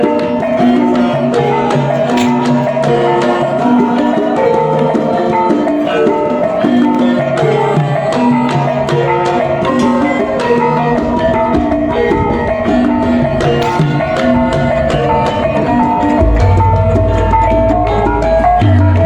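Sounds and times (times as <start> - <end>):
hand drum strokes: 0.0 - 19.0
pitched percussion ensemble: 0.0 - 19.0.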